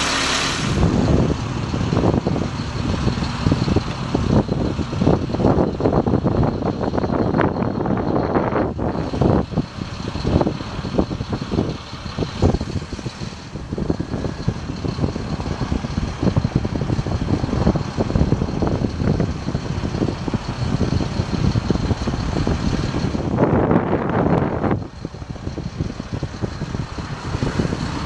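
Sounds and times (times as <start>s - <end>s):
truck engine running: 0.0s - 28.0s
wind buffeting microphone: 0.0s - 28.0s.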